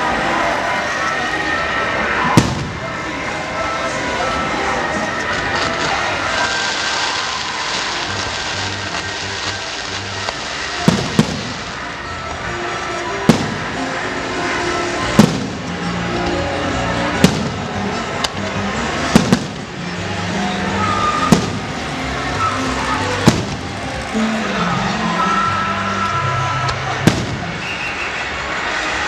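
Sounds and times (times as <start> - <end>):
music playing: 0.0 - 29.0
fireworks bangs: 2.0 - 29.0.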